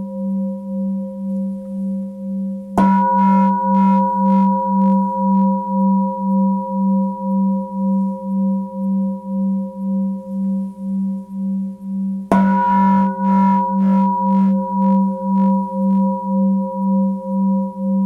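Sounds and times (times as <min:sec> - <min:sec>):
singing bowl ringing: 0:00.0 - 0:11.6, 0:12.3 - 0:18.0.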